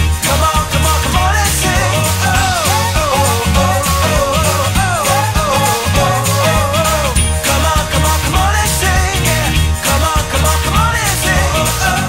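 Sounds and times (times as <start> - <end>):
upbeat pop-rock music: 0.0 - 12.0.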